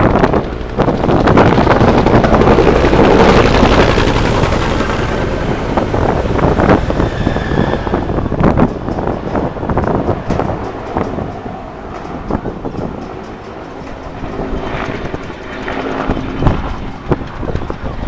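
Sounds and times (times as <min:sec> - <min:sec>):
aircraft engine rushing: 0:00.0 - 0:18.0.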